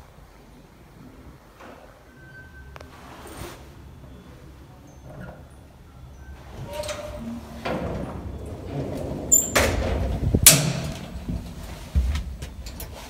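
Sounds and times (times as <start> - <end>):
lift doors sliding shut: 1.5 - 13.0.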